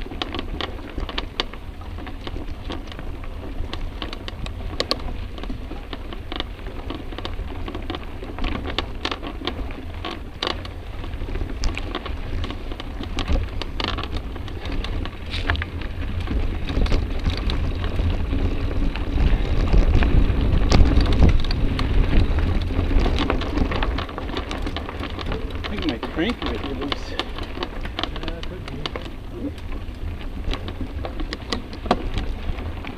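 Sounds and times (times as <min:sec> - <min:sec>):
bike clicks and rattles: 0:00.0 - 0:32.9
bike tyres on dirt: 0:00.0 - 0:32.9
wind rumble on microphone: 0:00.0 - 0:32.9.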